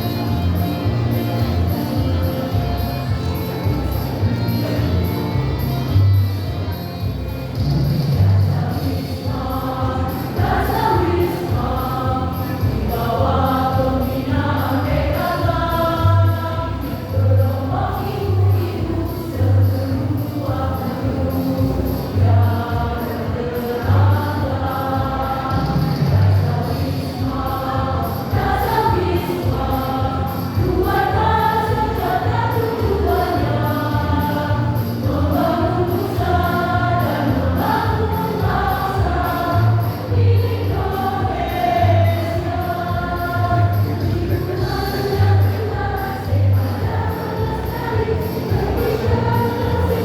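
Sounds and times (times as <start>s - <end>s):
choir singing: 8.4s - 50.0s.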